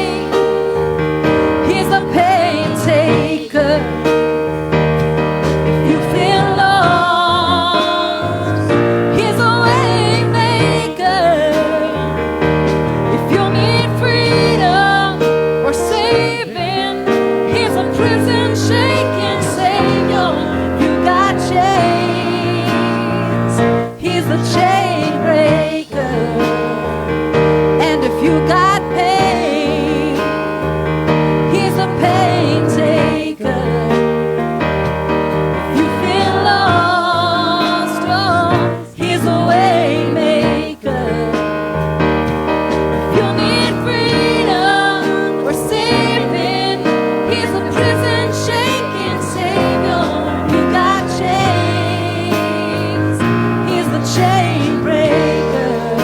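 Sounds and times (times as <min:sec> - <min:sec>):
person singing: 0:00.0 - 0:34.8, 0:35.5 - 0:41.9, 0:42.8 - 0:56.0
keyboard playing chords: 0:00.0 - 0:56.0.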